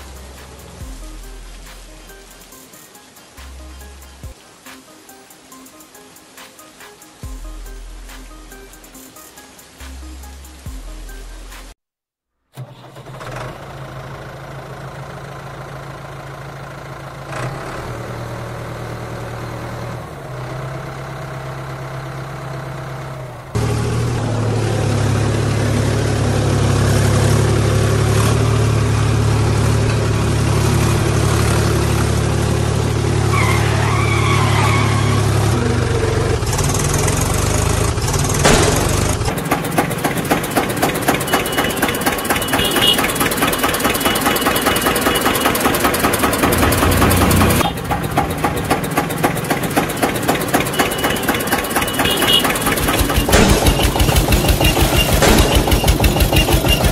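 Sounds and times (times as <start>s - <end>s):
tractor engine running: 0.0s - 4.6s, 12.5s - 56.9s.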